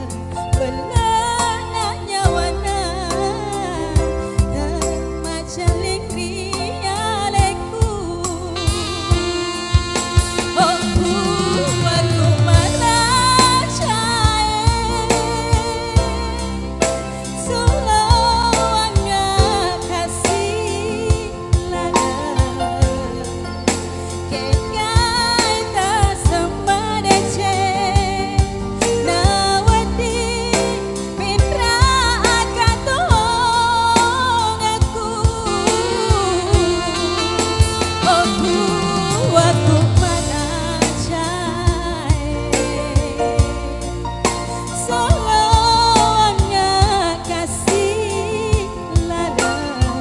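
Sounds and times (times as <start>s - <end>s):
person singing: 0.0s - 43.8s, 44.6s - 50.0s
live band music: 0.0s - 50.0s
sustained bass notes: 0.0s - 50.0s
steady drum beat: 7.4s - 50.0s.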